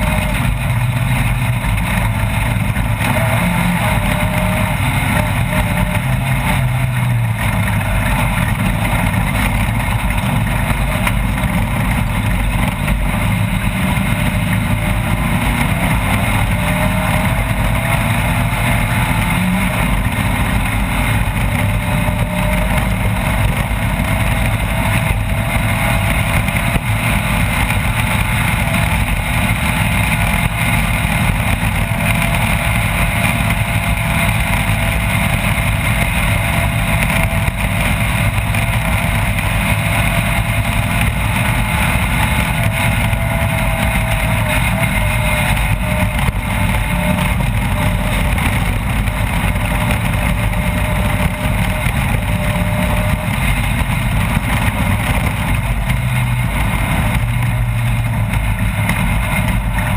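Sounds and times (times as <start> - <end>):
race vehicle engine running hard: 0.0 - 59.9.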